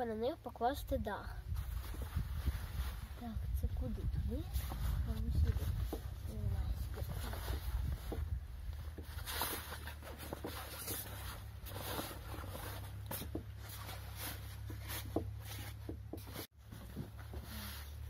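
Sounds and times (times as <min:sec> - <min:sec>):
wet fabric canopy rustling: 0:01.5 - 0:18.0.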